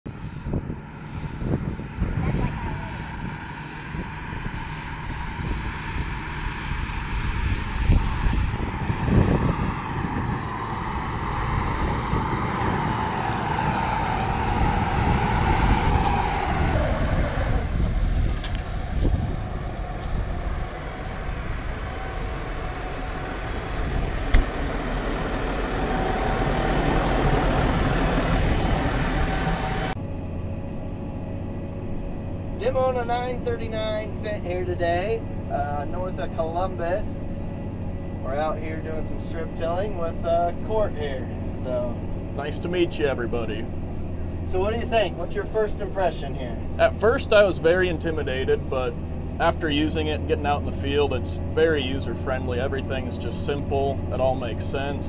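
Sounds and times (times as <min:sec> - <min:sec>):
tractor diesel engine passing: 0:00.1 - 0:55.0.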